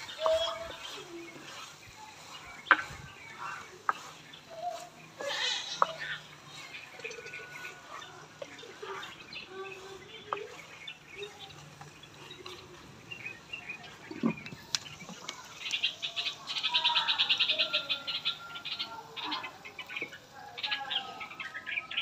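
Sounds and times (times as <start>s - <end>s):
birds chirping: 0.0s - 22.0s
fast pulsing bird chatter: 0.0s - 22.0s.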